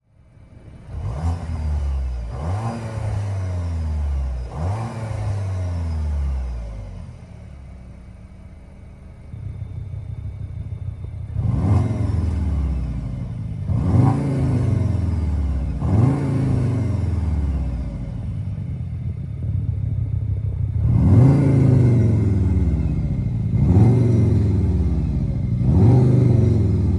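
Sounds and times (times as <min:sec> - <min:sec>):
car engine idling: 0:00.0 - 0:26.9
car engine revving: 0:00.3 - 0:26.9.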